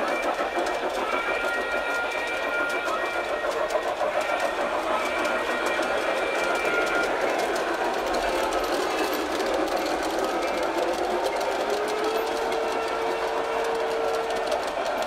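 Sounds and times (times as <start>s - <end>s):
model train motor whir: 0.0s - 15.0s
wheels clicking on rails: 0.0s - 15.0s.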